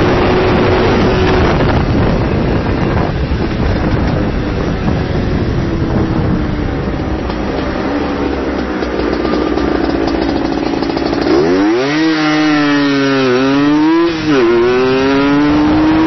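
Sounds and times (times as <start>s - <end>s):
two-stroke motorcycle engine running: 0.0s - 16.0s
wind rushing over microphone: 0.0s - 16.0s.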